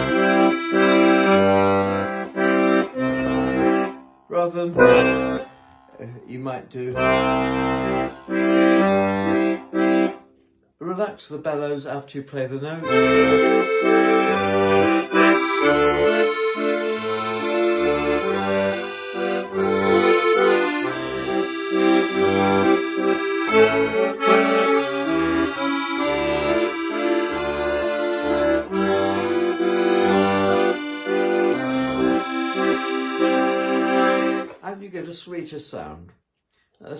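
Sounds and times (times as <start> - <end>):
accordion playing a tune: 0.0 - 10.5, 12.8 - 34.6.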